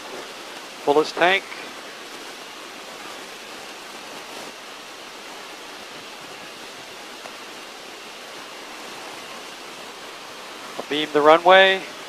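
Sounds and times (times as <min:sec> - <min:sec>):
aircraft cockpit engine and airflow rush: 0:00.0 - 0:12.0.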